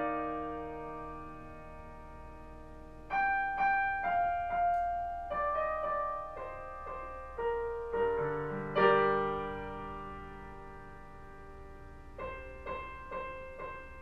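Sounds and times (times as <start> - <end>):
slow piano notes and chords: 0.0 - 14.0.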